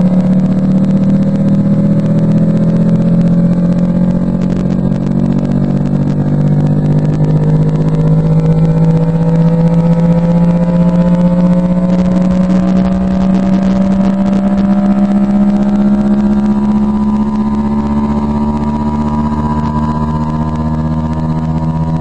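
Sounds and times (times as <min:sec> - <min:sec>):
rising bass test tone: 0:00.0 - 0:22.0
speaker crackling and buzz: 0:00.0 - 0:22.0.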